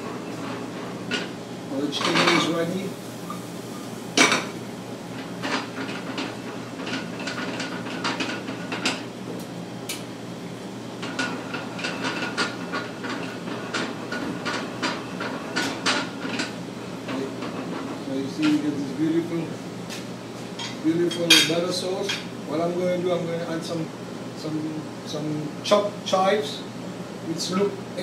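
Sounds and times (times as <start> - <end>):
low hum of kitchen equipment: 0.0 - 28.0.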